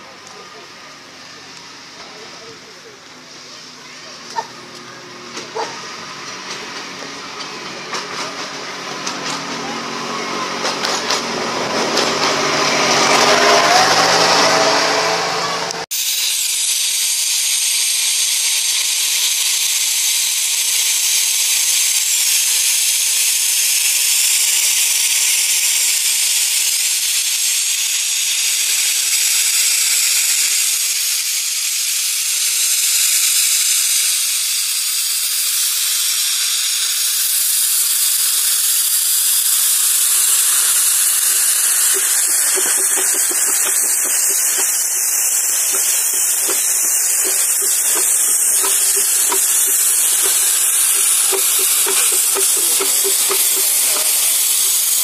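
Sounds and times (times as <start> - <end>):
steam hissing from locomotive: 0.0 - 55.0.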